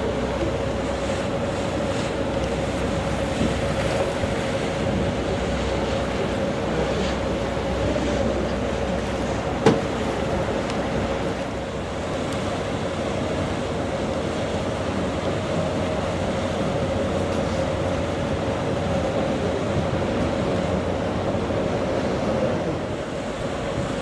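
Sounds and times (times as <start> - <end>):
boat engine droning: 0.0 - 24.0
rushing water: 0.0 - 24.0.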